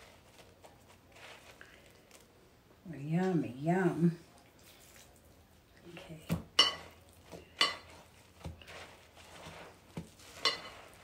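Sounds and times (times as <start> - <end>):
flour rustling: 0.0 - 11.0.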